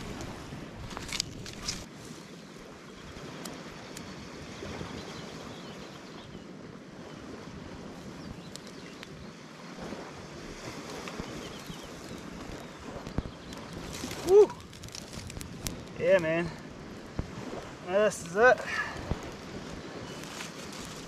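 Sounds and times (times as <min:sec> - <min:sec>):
small waves washing on beach: 0:00.0 - 0:21.0
wind buffeting microphone: 0:00.0 - 0:21.0.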